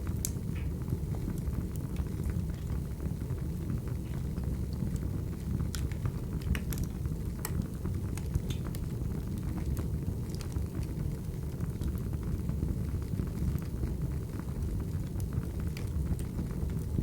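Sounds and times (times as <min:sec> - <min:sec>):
low rumble of flames: 0:00.0 - 0:17.0
wood fire popping and snapping: 0:00.0 - 0:17.0.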